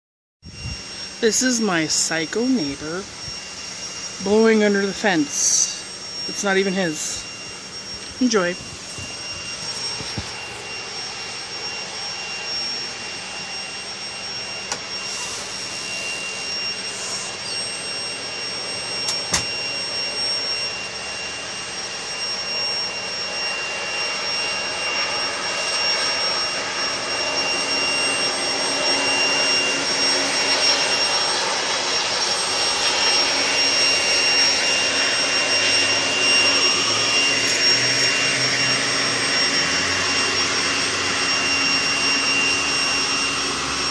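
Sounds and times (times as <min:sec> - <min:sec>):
leaf blower whining: 0:00.4 - 0:43.9.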